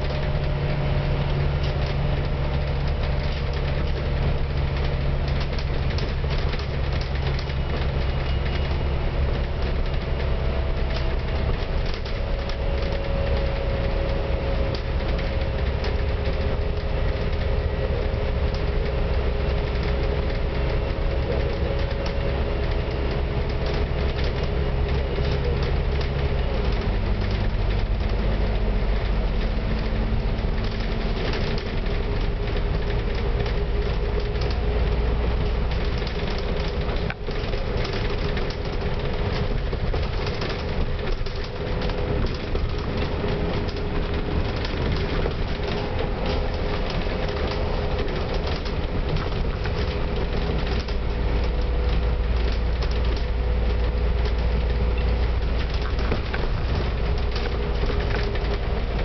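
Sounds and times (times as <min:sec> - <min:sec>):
bus engine drone: 0:00.0 - 0:59.0
light clicks and rattles: 0:00.0 - 0:59.0.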